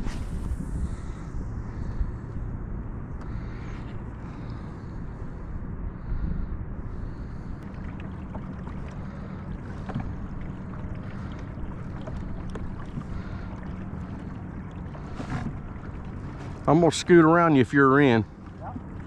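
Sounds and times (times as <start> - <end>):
low hum: 0.0 - 19.0
water noise around a kayak: 0.0 - 19.0
wind: 0.0 - 19.0.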